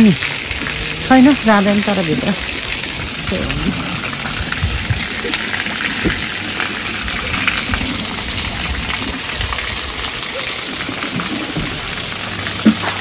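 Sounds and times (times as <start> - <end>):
water gushing from tank: 0.0 - 13.0.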